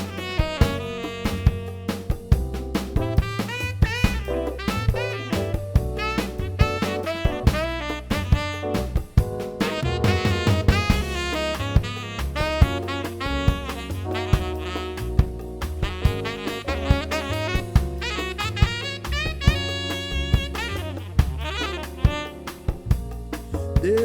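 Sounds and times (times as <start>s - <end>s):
saxophone melody: 0.0s - 23.3s
bass: 0.0s - 24.0s
drum kit steady beat: 0.0s - 24.0s.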